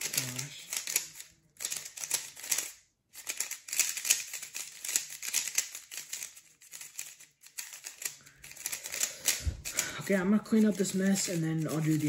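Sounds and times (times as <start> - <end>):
puzzle cube plastic clicks: 0.0 - 12.0.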